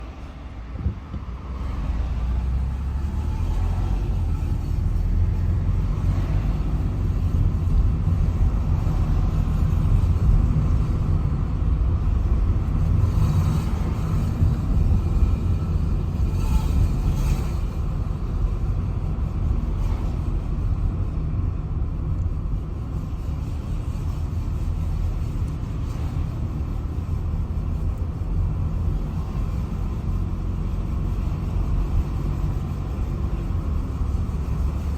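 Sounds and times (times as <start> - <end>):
road rumble: 0.0 - 34.9.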